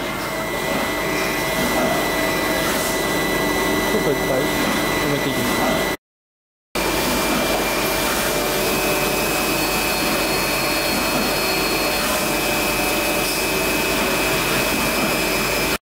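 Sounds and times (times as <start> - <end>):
high steady whine: 0.0 - 6.0, 6.8 - 15.8
machine hum: 0.0 - 6.0, 6.8 - 15.8.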